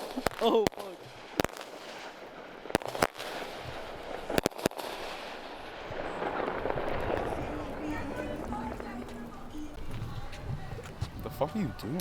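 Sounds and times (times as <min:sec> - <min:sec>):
firecracker bangs: 0:00.0 - 0:11.2.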